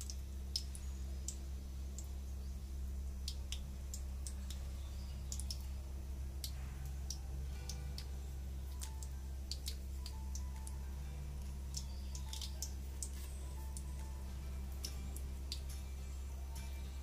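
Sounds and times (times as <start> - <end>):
oil popping and crackling: 0.0 - 15.8
steady low hum: 0.0 - 17.0.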